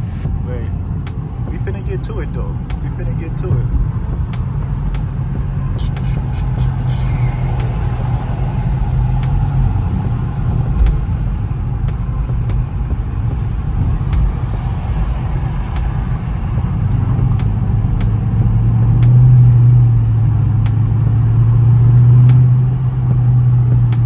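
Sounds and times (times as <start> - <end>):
car exhaust drone: 0.0 - 24.0.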